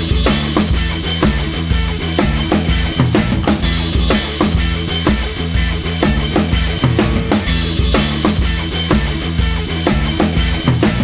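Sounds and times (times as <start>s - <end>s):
song with drums and bass: 0.0s - 11.0s.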